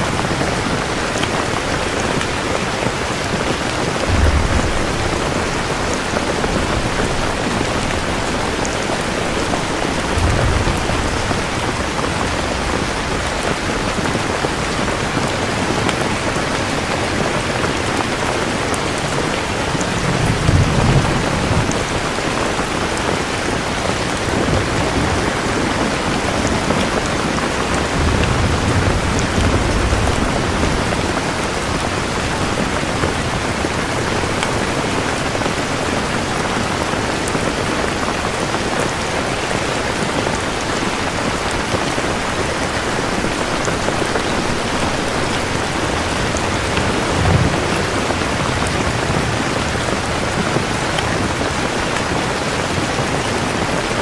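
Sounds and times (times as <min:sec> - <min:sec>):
distant thunder rumbling: 0:00.0 - 0:18.4, 0:19.0 - 0:36.1, 0:41.2 - 0:51.8
heavy rain: 0:00.0 - 0:54.0.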